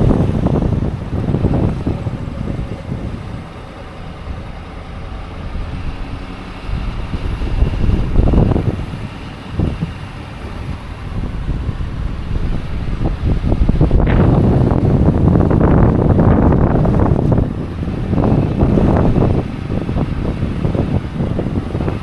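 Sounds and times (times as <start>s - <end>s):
vehicle engine running: 0.0s - 22.0s
wind buffeting microphone: 0.0s - 22.0s.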